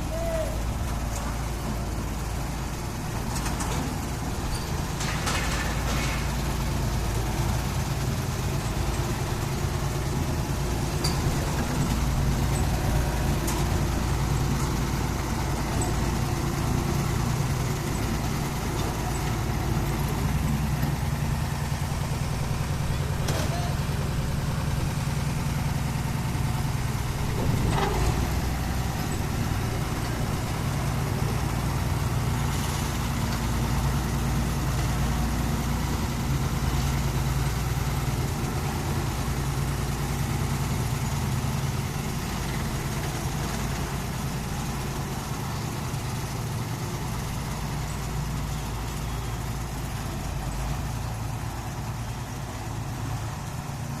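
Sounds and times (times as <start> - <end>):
road roller engine drone: 0.0 - 54.0.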